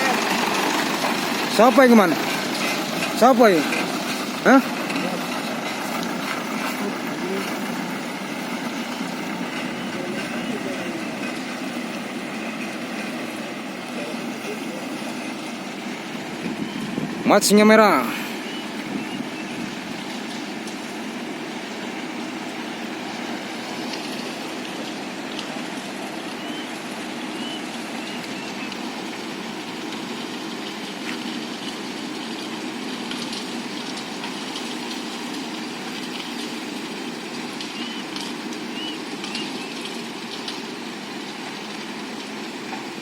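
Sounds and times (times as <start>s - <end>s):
truck diesel engine running: 0.0s - 43.0s.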